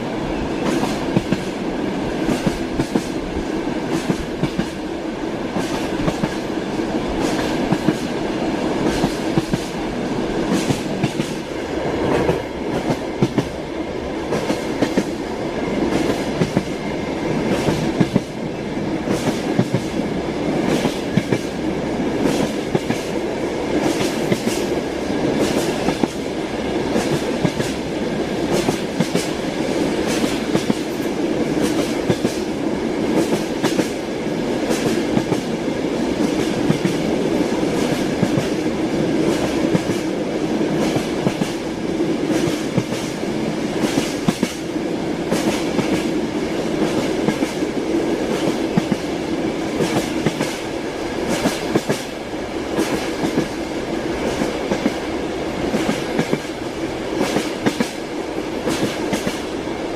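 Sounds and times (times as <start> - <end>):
train wheels clattering on rails: 0.0 - 59.8.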